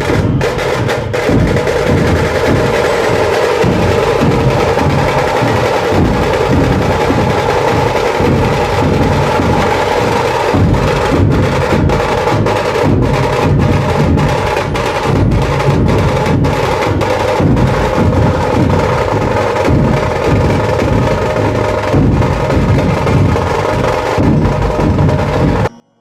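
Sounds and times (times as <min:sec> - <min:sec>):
fast snare drum rolls: 0:00.0 - 0:25.7
heavy drum beats: 0:00.0 - 0:25.7.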